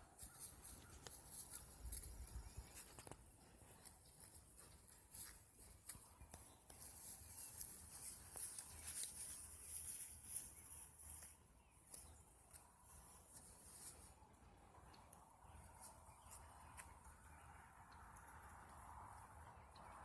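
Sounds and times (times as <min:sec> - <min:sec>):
goats tearing and chewing grass: 0:00.0 - 0:20.0.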